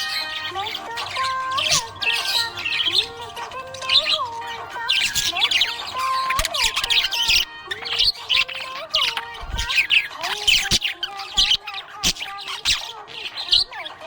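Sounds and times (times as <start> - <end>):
budgerigars chirping and squawking: 0.0 - 14.0.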